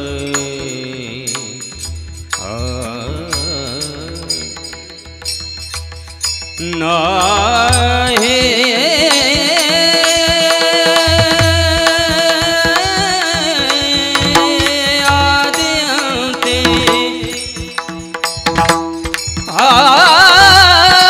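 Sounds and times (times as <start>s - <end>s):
tabla drum strokes: 0.0s - 21.0s.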